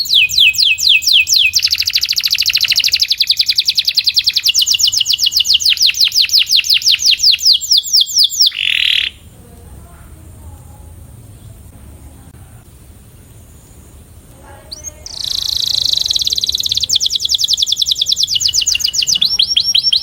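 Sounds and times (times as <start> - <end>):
canary singing trill: 0.0 - 9.5, 10.8 - 20.0
faint background noise: 0.0 - 20.0.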